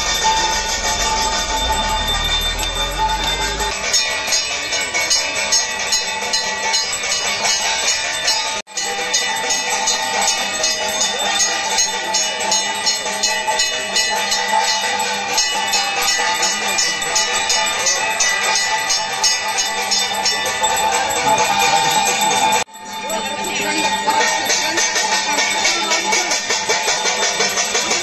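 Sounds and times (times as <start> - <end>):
temple bells ringing rapidly: 0.0 - 28.0.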